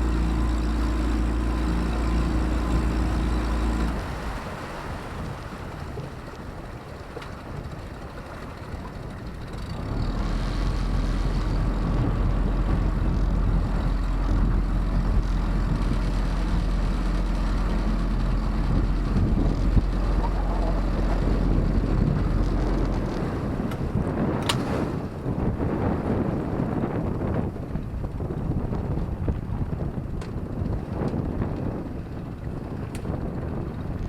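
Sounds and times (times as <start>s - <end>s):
rushing water: 0.0s - 28.0s
motorboat engine running: 0.0s - 34.0s
wind noise: 0.0s - 34.0s.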